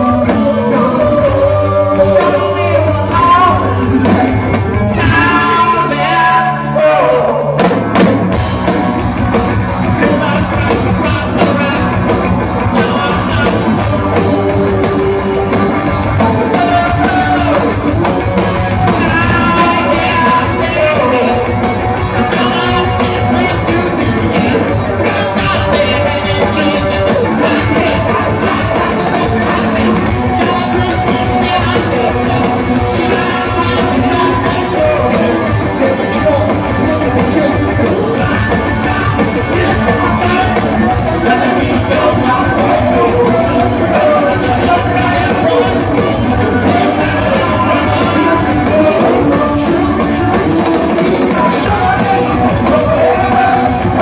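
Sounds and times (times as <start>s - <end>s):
person singing: 0.0s - 7.8s, 9.8s - 54.0s
drum kit: 0.0s - 54.0s
rock band playing live: 0.0s - 54.0s.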